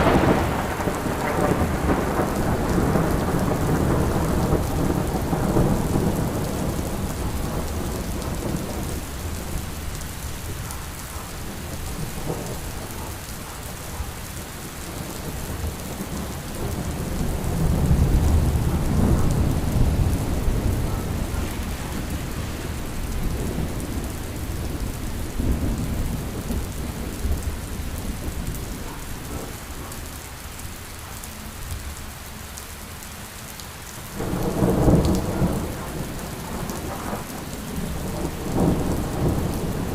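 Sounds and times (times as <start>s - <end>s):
thunder rumble: 0.0s - 30.0s, 34.1s - 39.9s
steady rain: 0.0s - 39.9s.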